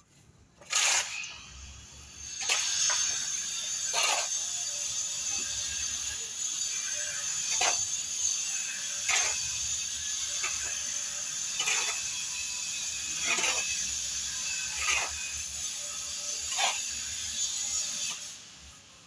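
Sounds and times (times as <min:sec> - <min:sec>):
hand tool scraping: 0:00.0 - 0:18.7.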